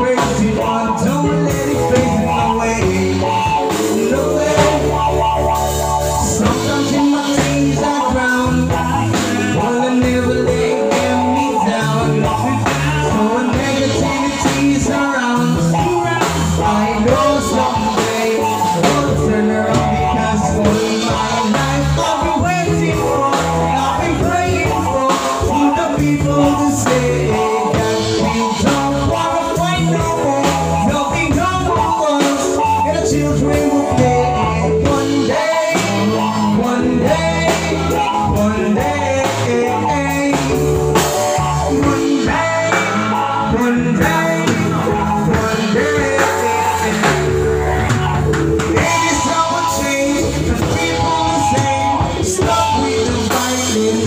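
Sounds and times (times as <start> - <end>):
low bass line: 0.0 - 54.0
man singing into a microphone: 0.0 - 54.0.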